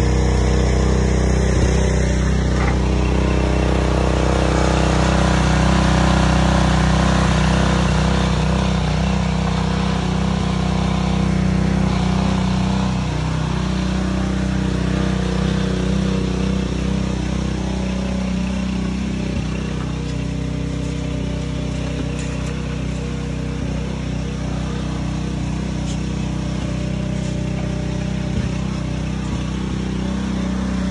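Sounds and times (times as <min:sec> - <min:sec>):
engine running steadily: 0:00.0 - 0:30.9.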